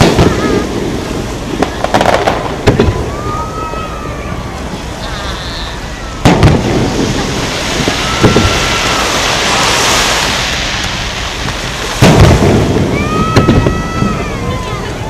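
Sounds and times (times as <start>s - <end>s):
fireworks bursting: 0.0s - 15.0s
rumble and hiss: 0.0s - 15.0s.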